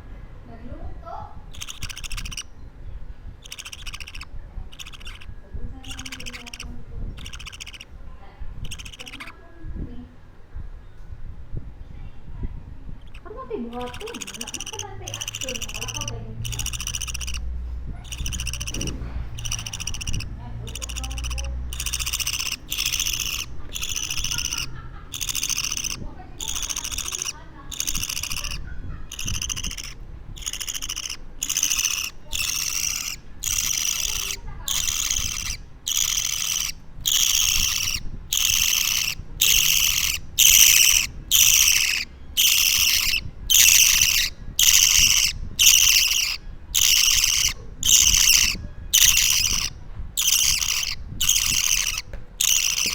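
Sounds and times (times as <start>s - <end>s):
bird chick rasping calls: 1.0s - 9.5s, 12.9s - 52.9s.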